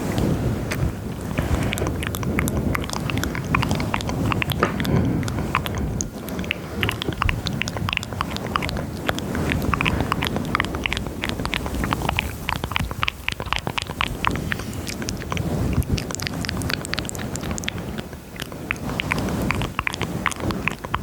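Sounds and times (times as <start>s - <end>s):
hands rubbing on microphone: 0.0s - 21.0s
wet mouth clicks and smacks: 0.0s - 21.0s.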